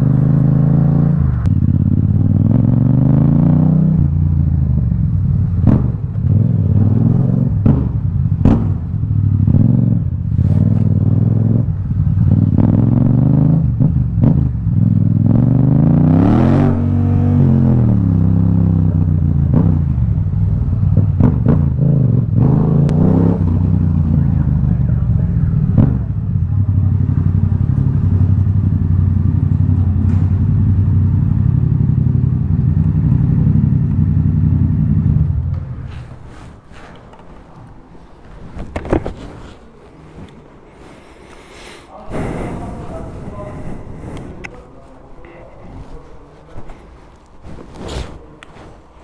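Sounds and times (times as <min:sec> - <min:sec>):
motorcycle engine revving: 0:00.0 - 0:36.6, 0:41.0 - 0:47.0
exhaust cracks: 0:00.0 - 0:49.0.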